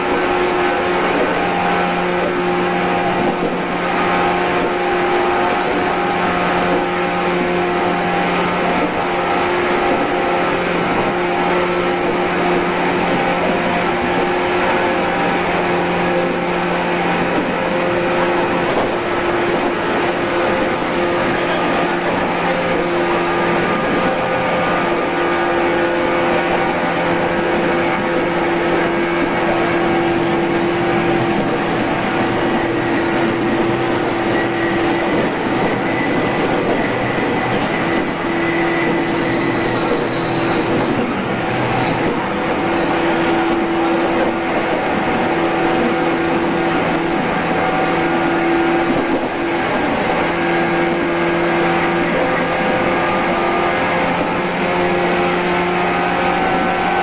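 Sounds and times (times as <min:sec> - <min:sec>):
train motor and gear hum: 0:00.0 - 0:57.0
train wheels rumbling on rail: 0:00.0 - 0:57.0.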